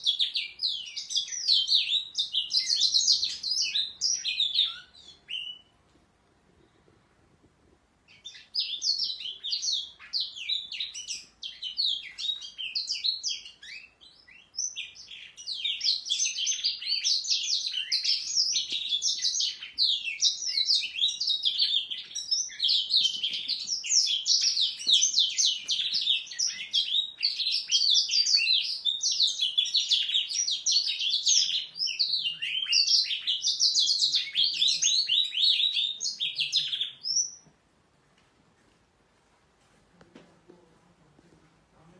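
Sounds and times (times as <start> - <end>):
canaries trilling song: 0.0 - 5.8, 8.1 - 37.5.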